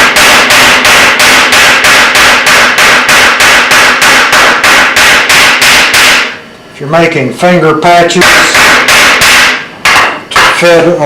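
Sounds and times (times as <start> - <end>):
hammer striking steel on anvil: 0.0 - 6.4, 8.2 - 10.9.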